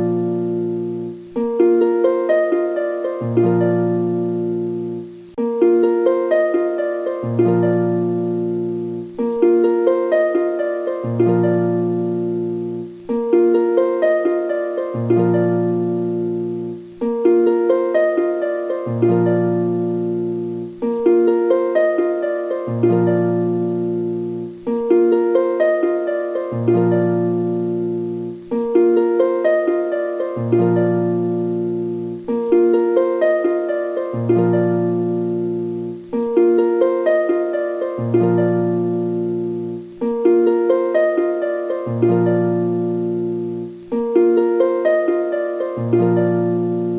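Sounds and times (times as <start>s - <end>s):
plucked string melody loop: 0.0s - 46.9s.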